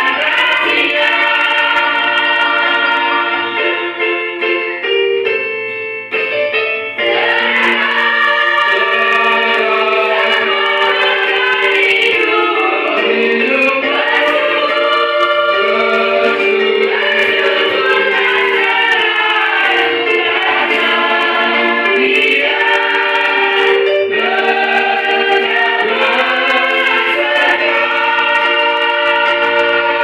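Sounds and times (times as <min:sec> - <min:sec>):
church choir singing a hymn: 0:00.0 - 0:04.3, 0:07.0 - 0:30.0.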